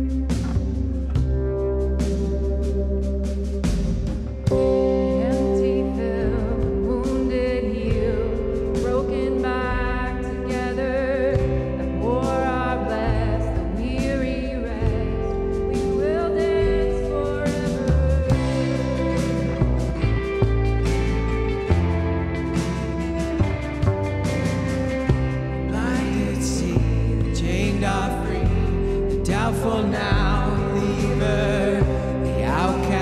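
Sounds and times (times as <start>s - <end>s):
live band playing: 0.0s - 33.0s
person singing: 4.5s - 33.0s.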